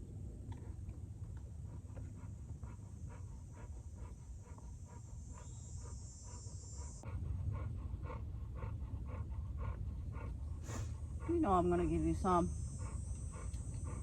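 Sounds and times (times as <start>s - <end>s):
dog panting: 0.5s - 14.0s.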